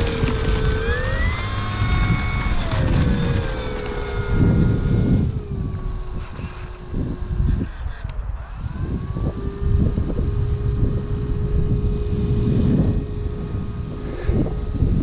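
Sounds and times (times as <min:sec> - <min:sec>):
model plane motor whining: 0:00.0 - 0:15.0
wind buffeting microphone: 0:00.0 - 0:15.0.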